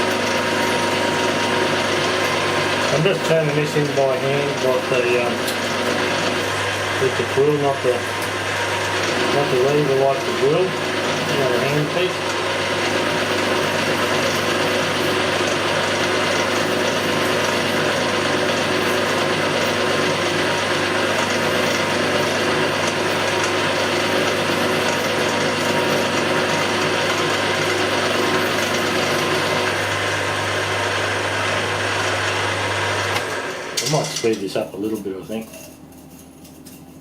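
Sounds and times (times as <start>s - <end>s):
drill cutting through metal: 0.0s - 34.5s
milling machine gears whining: 0.0s - 36.6s.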